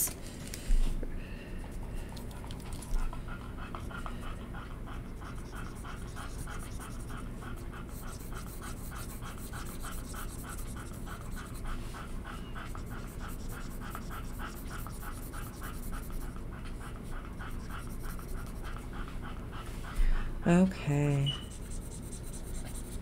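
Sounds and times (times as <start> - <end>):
dog panting: 1.5 - 23.0.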